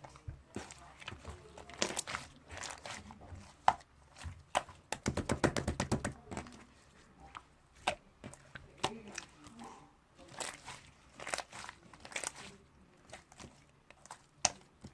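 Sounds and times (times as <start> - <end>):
slime squished by hand: 0.0 - 6.7, 7.8 - 14.9.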